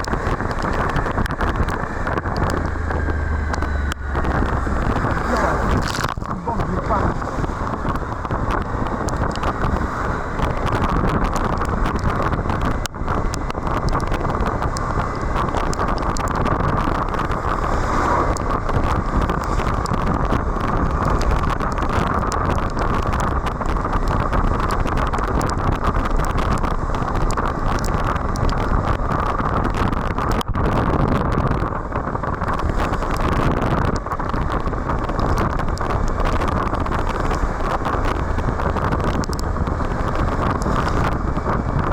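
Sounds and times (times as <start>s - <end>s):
road and engine noise: 0.0s - 41.9s
wind rush on microphone: 0.0s - 41.9s.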